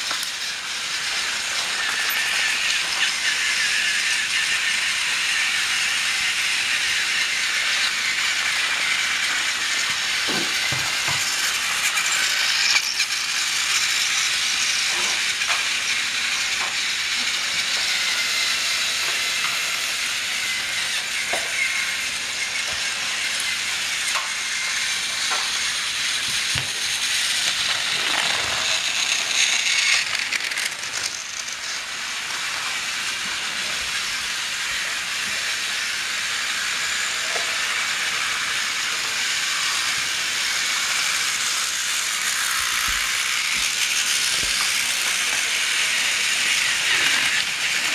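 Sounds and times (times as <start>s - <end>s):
toy train motor whir: 0.0s - 47.9s
toy train wheel rattle: 0.0s - 47.9s.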